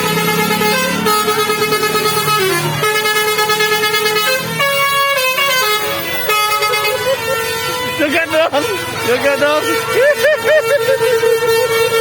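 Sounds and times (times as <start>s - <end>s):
multi-tone bus air horn tune: 0.0s - 12.0s.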